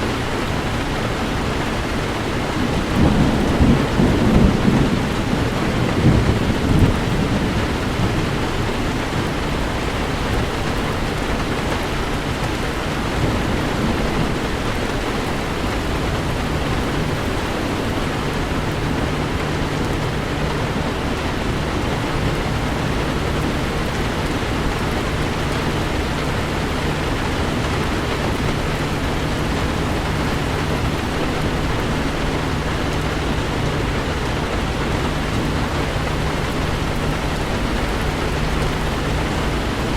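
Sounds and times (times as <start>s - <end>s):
heavy rain on a car: 0.0s - 39.9s
low rumble of thunder: 0.0s - 39.9s.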